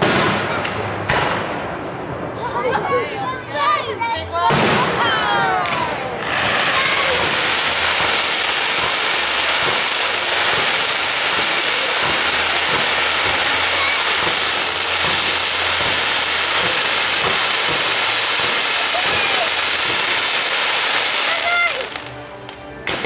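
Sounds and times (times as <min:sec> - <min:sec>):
fireworks crackling: 0:00.0 - 0:01.8, 0:04.4 - 0:23.0.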